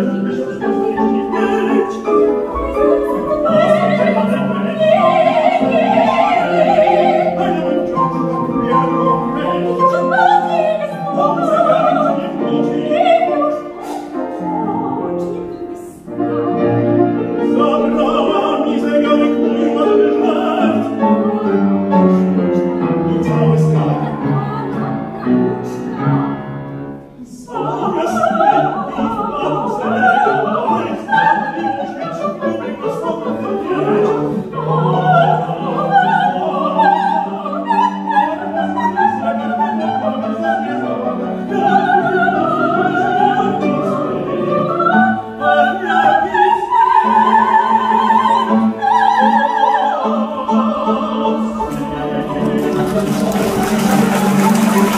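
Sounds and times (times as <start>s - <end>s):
soprano singing operatically: 0.0s - 26.3s, 27.2s - 54.9s
grand piano accompaniment: 0.0s - 54.9s.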